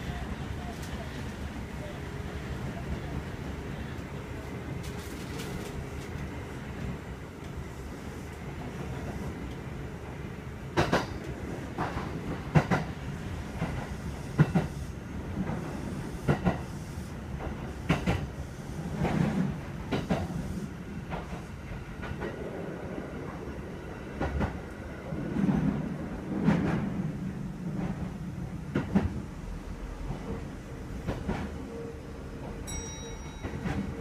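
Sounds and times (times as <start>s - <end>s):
train running rumble: 0.0s - 34.0s.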